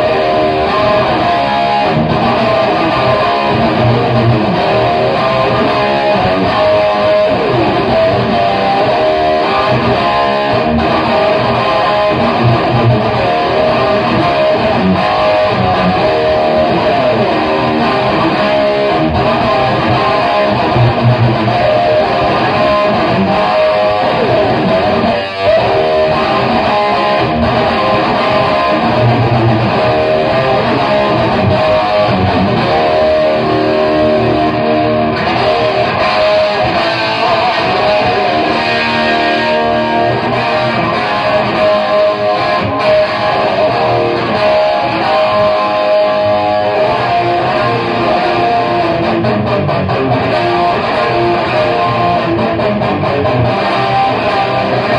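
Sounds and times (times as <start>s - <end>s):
overdriven electric guitar chords: 0.0s - 54.9s.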